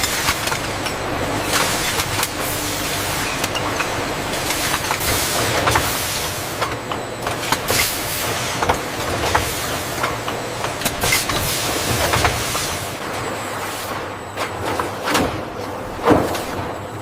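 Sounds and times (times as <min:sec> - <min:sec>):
factory machinery running: 0:00.0 - 0:17.0.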